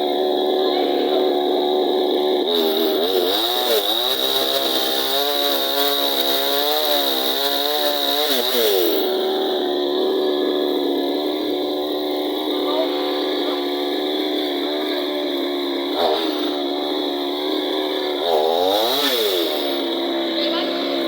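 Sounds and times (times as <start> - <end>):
chainsaw cutting wood: 0.0 - 21.0.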